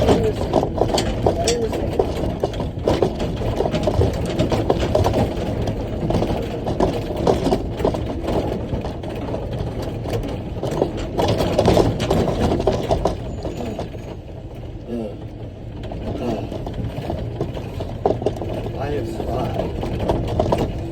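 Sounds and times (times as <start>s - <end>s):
diesel truck engine running: 0.0s - 20.9s
rattles and knocks: 0.0s - 20.9s.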